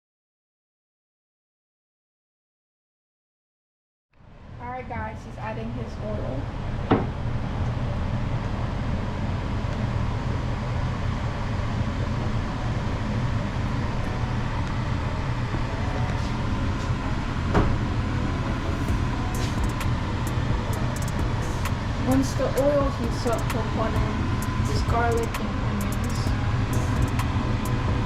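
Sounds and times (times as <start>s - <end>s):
low mechanical hum and rumble: 4.2s - 28.0s.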